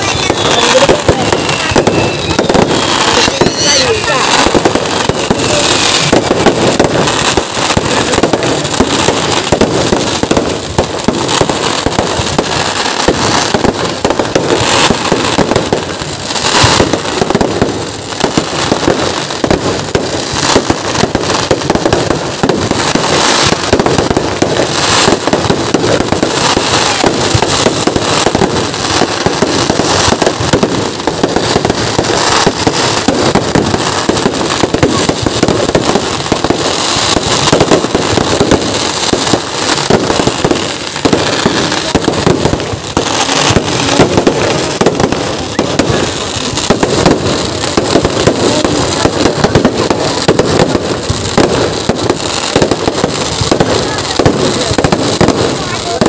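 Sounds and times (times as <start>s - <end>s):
firecracker explosions and crackling: 0.0s - 56.0s
loud firework blasts: 0.0s - 56.0s.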